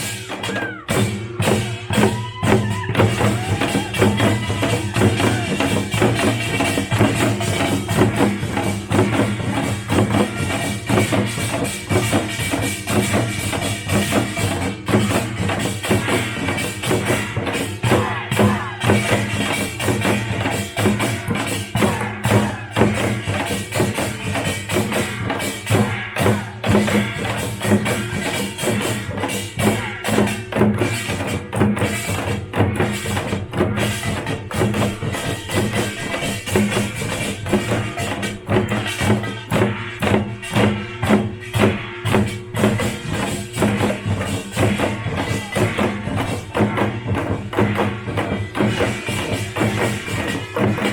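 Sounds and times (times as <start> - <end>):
fast dense drumming: 0.0 - 50.9
small metal gongs clanging: 0.0 - 50.9.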